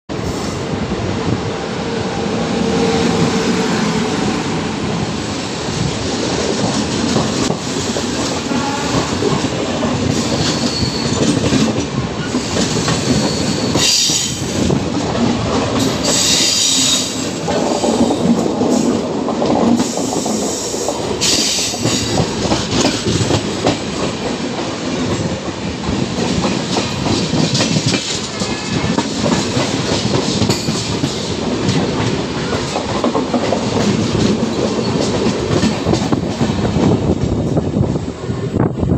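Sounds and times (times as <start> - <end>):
train rumbling: 0.1 - 38.9.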